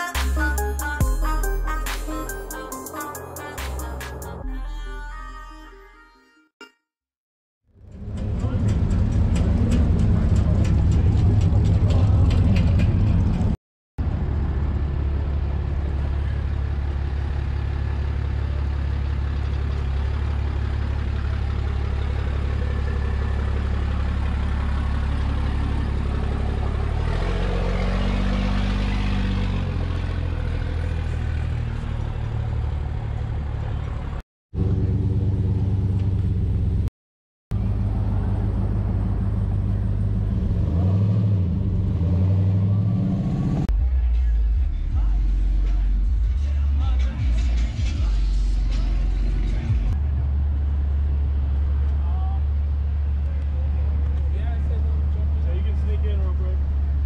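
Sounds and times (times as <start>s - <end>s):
vehicle engines idling: 7.8s - 36.9s, 37.6s - 42.8s, 43.6s - 57.0s.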